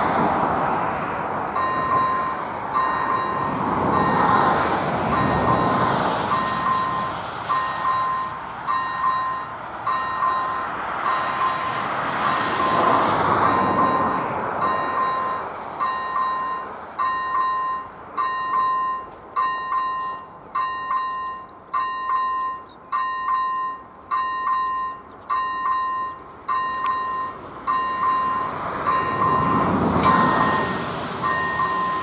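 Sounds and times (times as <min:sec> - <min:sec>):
electronic warning bell dinging: 0:01.6 - 0:04.5, 0:05.1 - 0:32.0.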